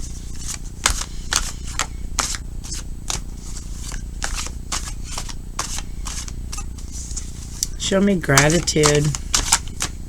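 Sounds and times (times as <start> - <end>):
cards being shuffled: 0.0 - 10.0
low background hum: 0.0 - 10.0.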